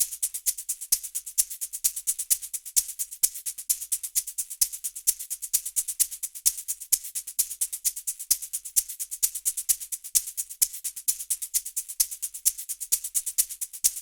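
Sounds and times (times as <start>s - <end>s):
fast high-pitched percussion strokes: 0.0s - 14.0s.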